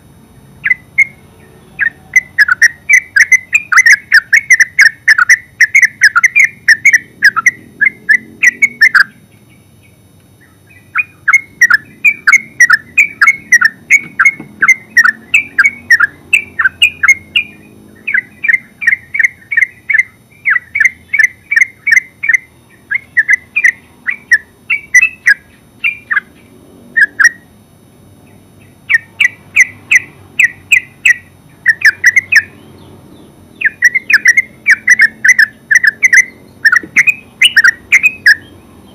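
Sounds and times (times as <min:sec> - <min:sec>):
bird chattering in sharp notes: 0:00.6 - 0:27.5, 0:28.3 - 0:38.6.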